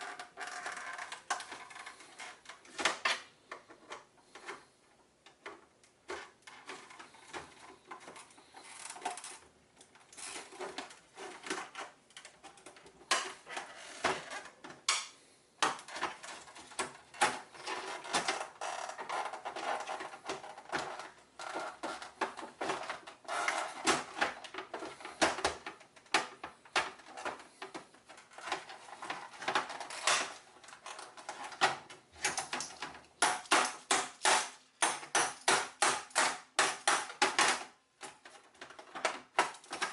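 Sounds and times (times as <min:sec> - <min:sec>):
tools clicking and scraping plastic: 0:00.0 - 0:39.9.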